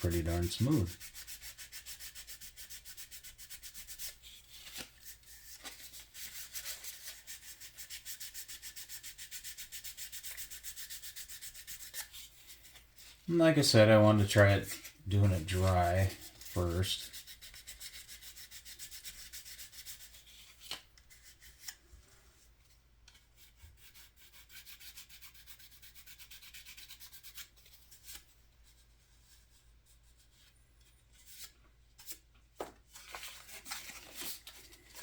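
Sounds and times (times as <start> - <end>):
sandpaper rubbing: 0.0 - 13.4, 14.1 - 21.8, 23.4 - 30.5.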